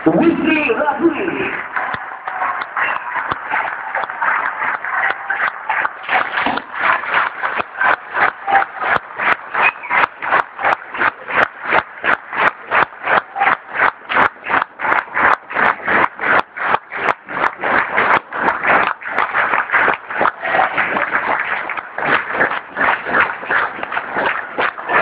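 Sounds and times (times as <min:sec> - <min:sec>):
audience clapping in unison: 0:00.0 - 0:25.0.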